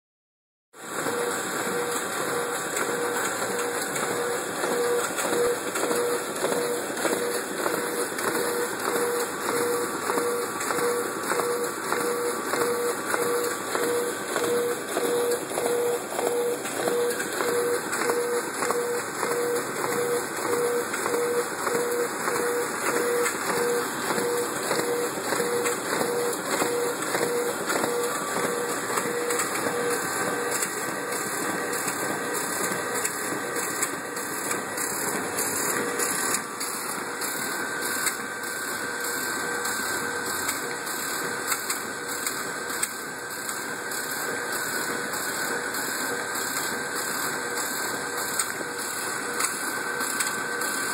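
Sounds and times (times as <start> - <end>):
printer feeding paper: 0.8 - 50.9.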